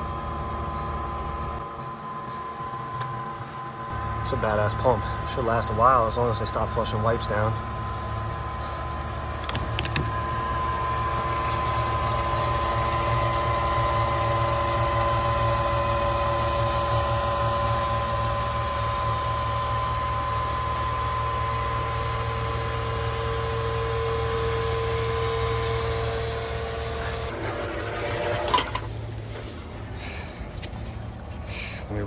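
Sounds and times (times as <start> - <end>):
pump motor hum with whine: 0.0 - 32.0.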